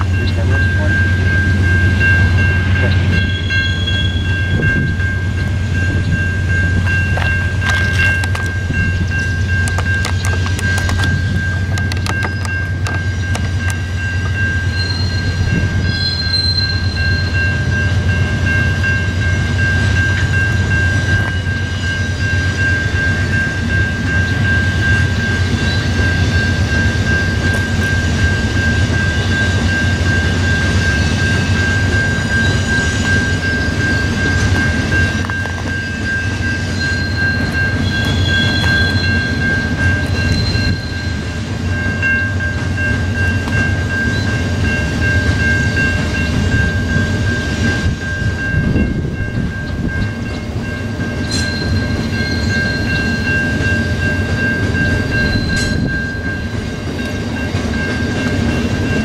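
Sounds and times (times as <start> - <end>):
constant high-pitched tone: 0.0 - 59.0
steel wheels rumbling on rail: 0.0 - 59.0.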